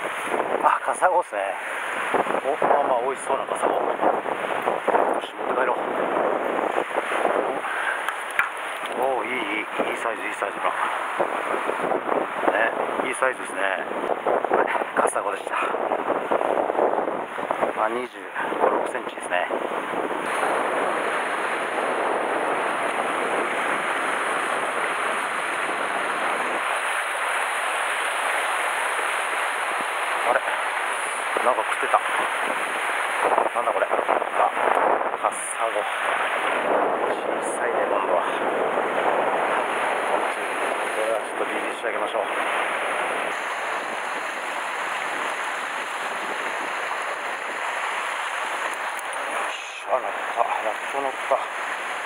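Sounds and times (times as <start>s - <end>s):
surf breaking over rocks: 0.0s - 52.0s.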